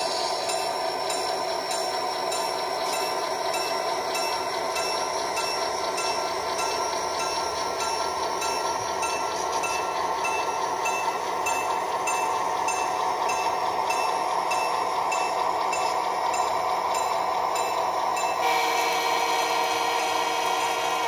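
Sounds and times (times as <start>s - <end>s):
model train running hum: 0.0s - 21.0s.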